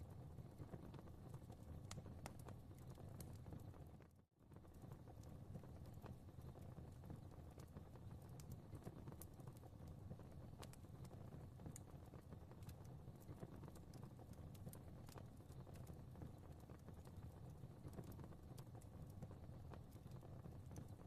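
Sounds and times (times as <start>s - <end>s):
fireplace fire crackling: 0.0s - 21.0s.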